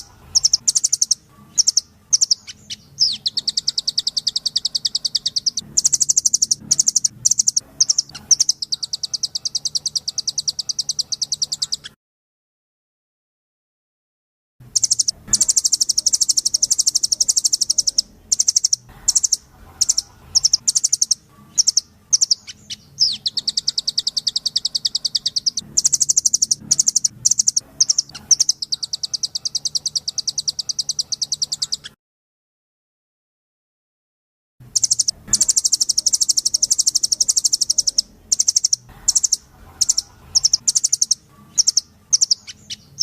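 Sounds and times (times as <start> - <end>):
recorded birdsong trills: 0.0 - 12.0, 14.6 - 32.0, 34.6 - 43.0.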